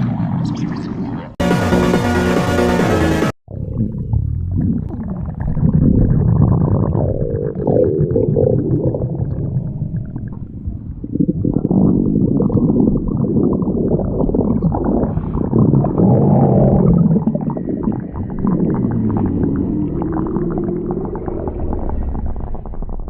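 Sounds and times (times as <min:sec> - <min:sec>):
stomach growling: 0:03.5 - 0:23.0.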